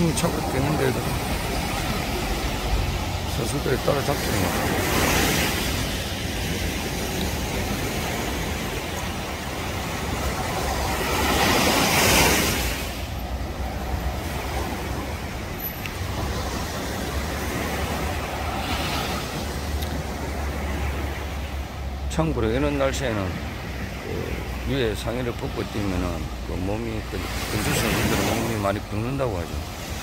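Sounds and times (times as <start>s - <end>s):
surf washing up beach: 0.0s - 30.0s
wave crashing: 0.0s - 30.0s.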